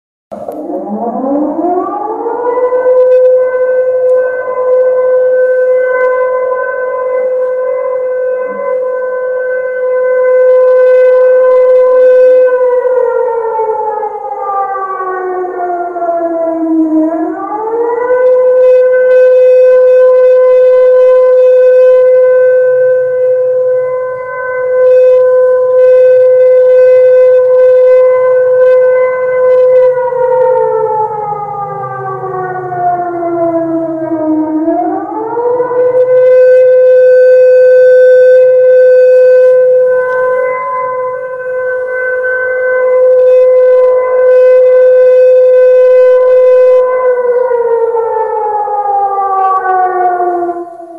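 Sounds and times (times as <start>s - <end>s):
loud wailing siren: 0.3s - 50.9s.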